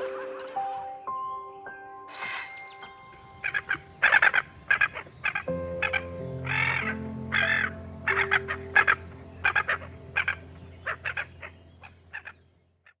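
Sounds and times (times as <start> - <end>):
background music held notes: 0.0 - 12.6.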